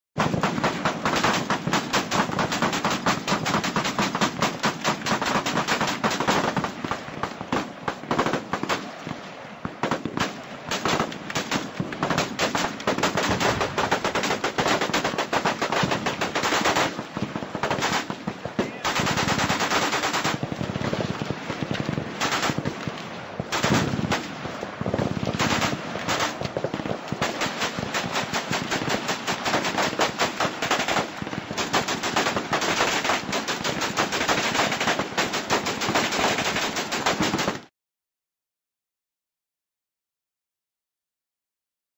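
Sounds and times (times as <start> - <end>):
machine guns firing bursts: 0.2 - 8.8, 9.7 - 37.6.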